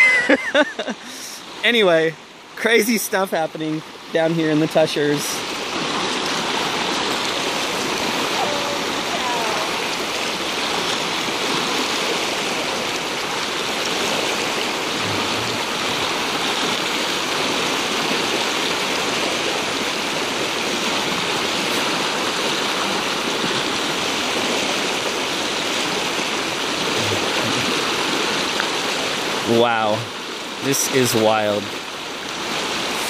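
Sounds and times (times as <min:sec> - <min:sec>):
creek rushing loudly: 0:00.0 - 0:33.0.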